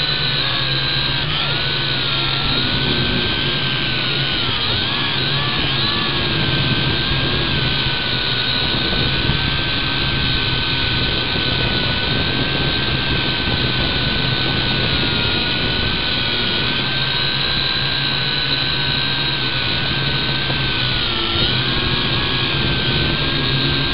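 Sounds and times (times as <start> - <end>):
quadcopter motors whining: 0.0 - 23.9.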